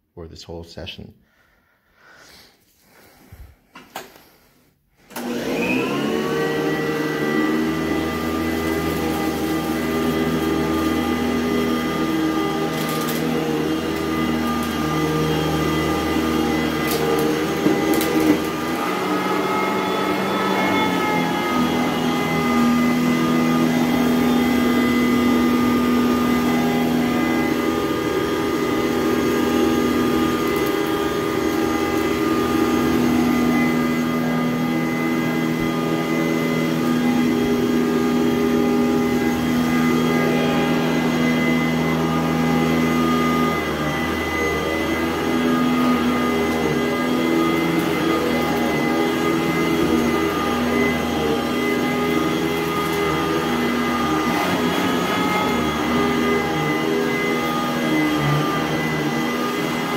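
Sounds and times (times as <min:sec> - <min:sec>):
upright vacuum cleaner running: 0:05.0 - 0:59.9.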